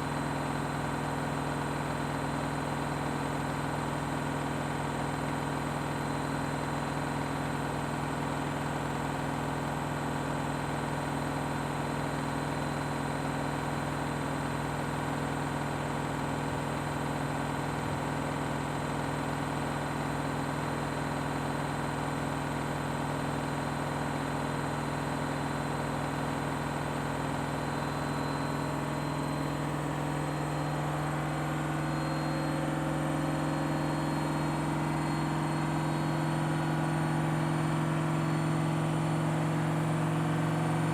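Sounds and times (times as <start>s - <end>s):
washing machine spin cycle hum: 0.0s - 40.9s.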